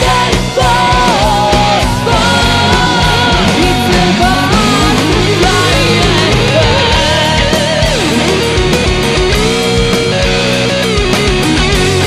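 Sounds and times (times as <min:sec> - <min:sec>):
electric guitar long wavering notes: 0:00.0 - 0:12.0
steady drum beat: 0:00.0 - 0:12.0.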